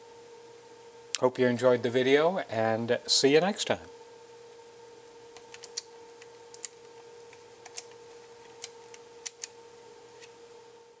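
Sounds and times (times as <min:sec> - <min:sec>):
faint high hum: 0:00.0 - 0:11.0.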